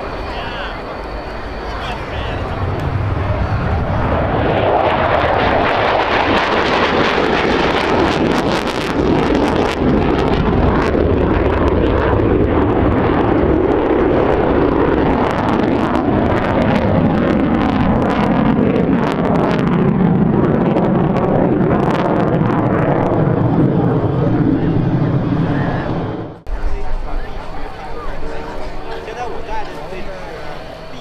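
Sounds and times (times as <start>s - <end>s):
jet roar with crackling edge: 0.0s - 31.0s.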